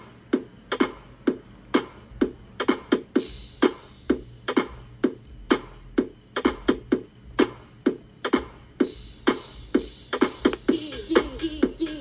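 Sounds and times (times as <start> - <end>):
music with punchy drum beat: 0.0 - 12.0.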